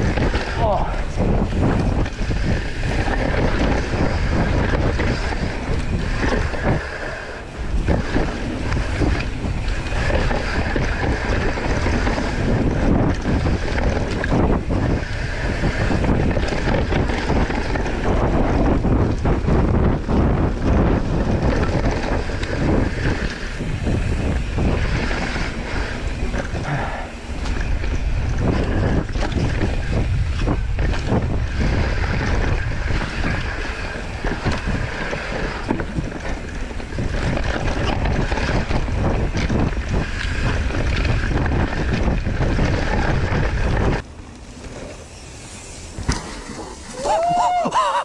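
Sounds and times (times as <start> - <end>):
wind buffeting microphone: 0.0 - 47.8
mountain bike rumbling and rattling: 0.0 - 48.0.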